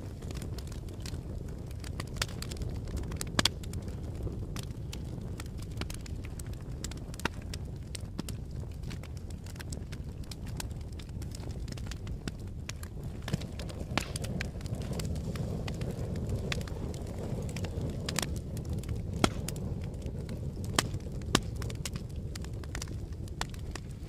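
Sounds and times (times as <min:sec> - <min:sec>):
fire burning rumble: 0:00.0 - 0:24.0
fire crackling and popping: 0:00.0 - 0:24.0.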